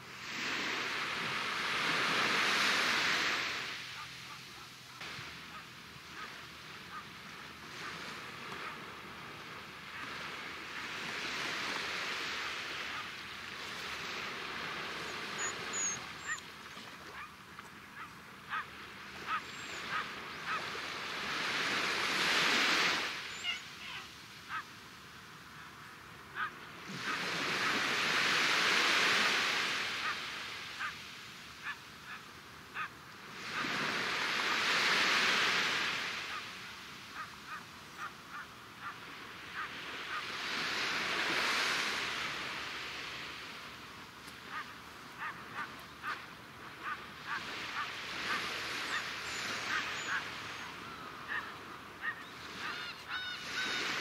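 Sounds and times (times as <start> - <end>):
waves washing up a beach: 0.0 - 54.0.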